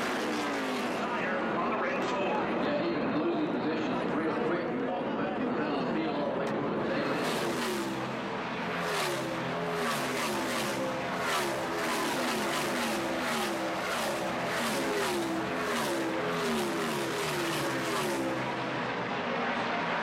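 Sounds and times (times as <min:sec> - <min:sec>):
race cars passing at full throttle: 0:00.0 - 0:20.0.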